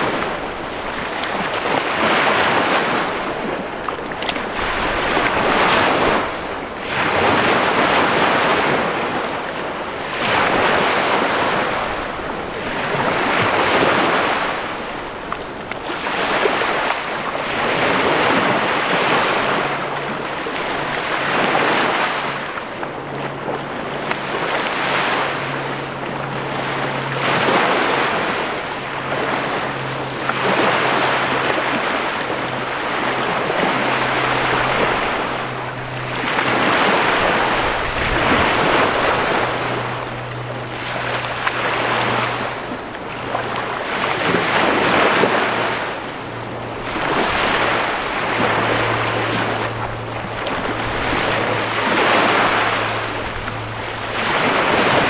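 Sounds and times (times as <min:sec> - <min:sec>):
waves washing up a beach: 0:00.0 - 0:55.0.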